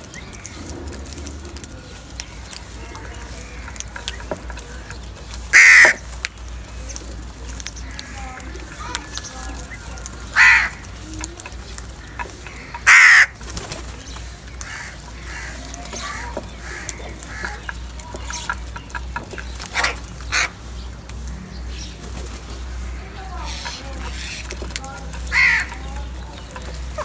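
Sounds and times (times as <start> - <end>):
crows cawing: 0.1 - 13.6, 14.5 - 21.6, 22.7 - 27.0.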